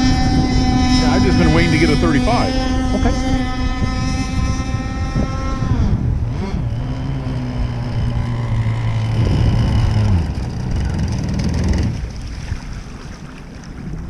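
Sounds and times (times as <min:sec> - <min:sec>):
model boat engine whining: 0:00.0 - 0:12.0.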